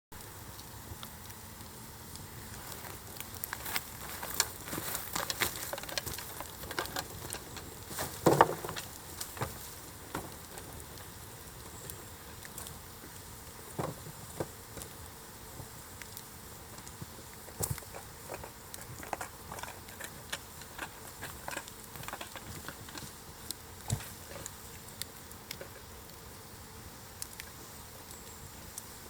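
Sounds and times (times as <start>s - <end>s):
wood fire crackling: 0.1s - 29.0s.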